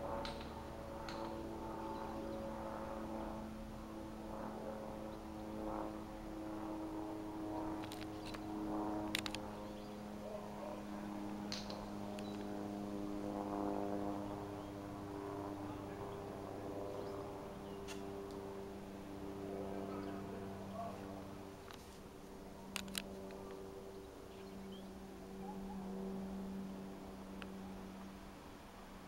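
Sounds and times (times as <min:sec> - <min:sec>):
propeller aircraft droning overhead: 0:00.0 - 0:29.0.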